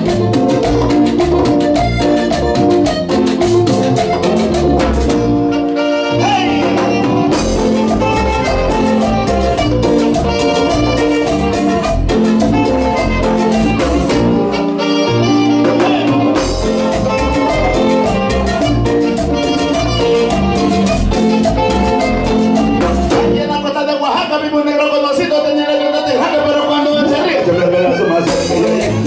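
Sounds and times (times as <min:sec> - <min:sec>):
hand percussion: 0:00.0 - 0:23.7, 0:27.4 - 0:29.0
saxophones: 0:00.0 - 0:23.7
bass: 0:00.0 - 0:24.0, 0:27.7 - 0:29.0
accordion: 0:00.0 - 0:24.1, 0:25.8 - 0:29.0.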